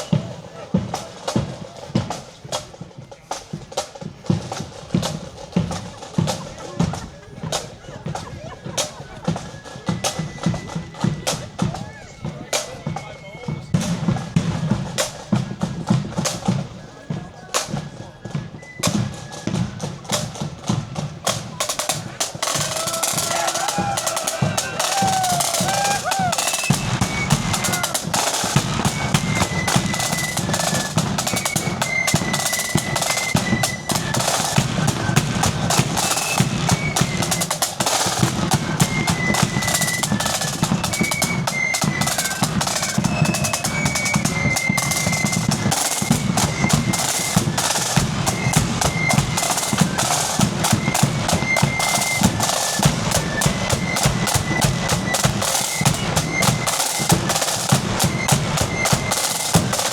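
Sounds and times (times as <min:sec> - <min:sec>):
flute melody: 0:00.0 - 0:02.1, 0:04.2 - 0:59.9
snare drum rolls: 0:00.0 - 0:59.9.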